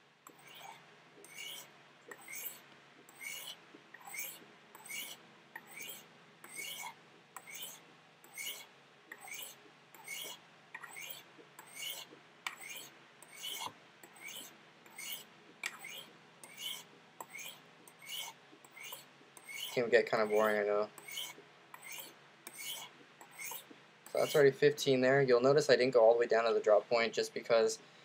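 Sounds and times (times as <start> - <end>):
knife scraping on ceramic rods: 0.3 - 24.6.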